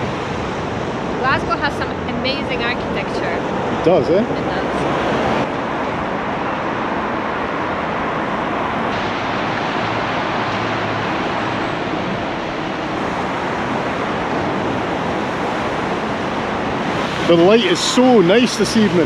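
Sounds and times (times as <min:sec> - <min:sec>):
rush of motorway traffic: 0:00.0 - 0:19.0.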